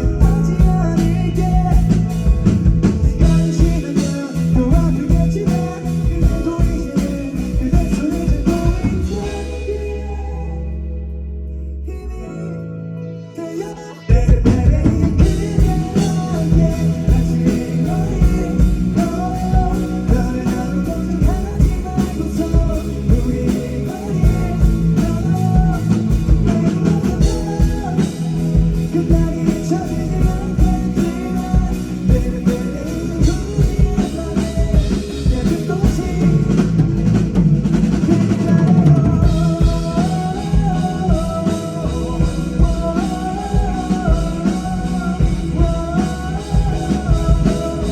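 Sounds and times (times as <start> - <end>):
drum kit beat: 0.0 - 10.1, 14.1 - 47.9
guitar: 0.0 - 47.9
person singing: 0.0 - 47.9.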